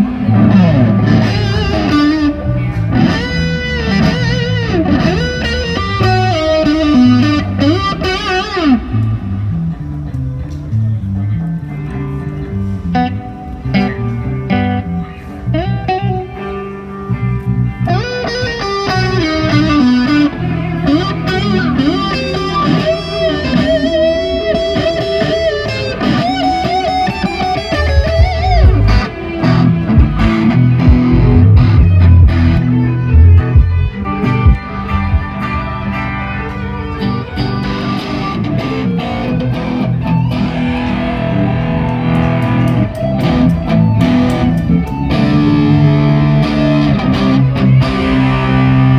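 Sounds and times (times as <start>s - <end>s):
bass guitar: 0.0s - 48.9s
electric guitar lead lines: 0.0s - 48.9s
live band through a loud pa: 0.0s - 48.9s.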